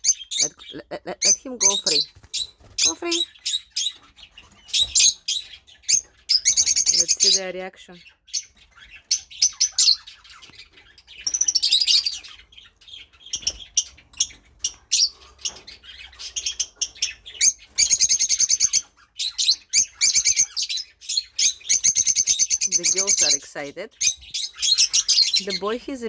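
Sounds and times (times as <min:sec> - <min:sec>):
lovebirds chirping and chattering: 0:00.0 - 0:26.0.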